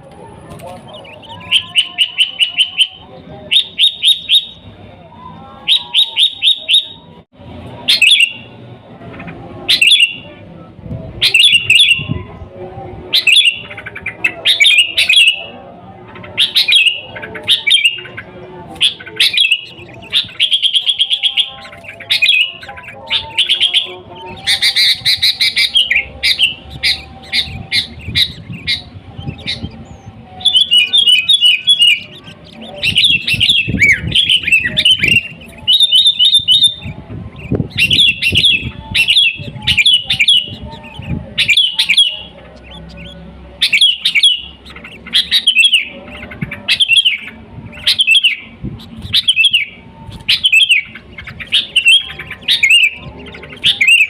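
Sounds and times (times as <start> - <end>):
bird whistling phrases: 0.9 - 4.6, 5.6 - 7.1, 7.9 - 8.5, 9.7 - 10.2, 13.1 - 15.5, 16.3 - 54.0.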